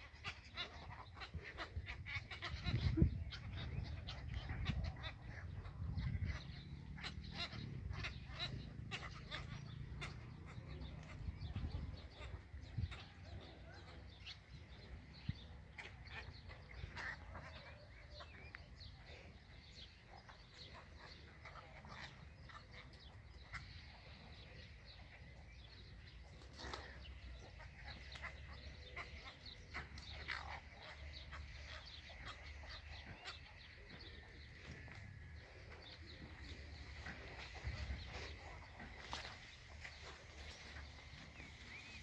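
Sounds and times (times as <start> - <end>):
flock of egrets calling: 0.0 - 42.0.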